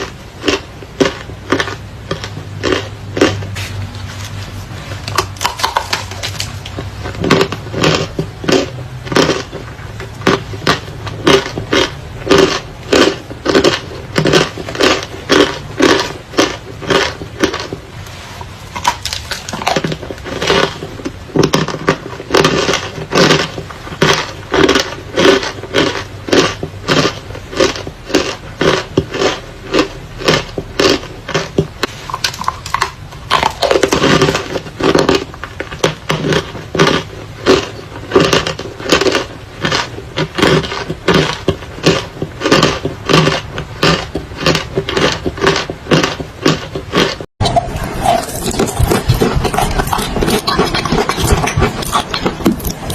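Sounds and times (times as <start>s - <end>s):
crunching of brittle pieces: 0.0s - 52.9s
low steady hum: 0.0s - 52.9s.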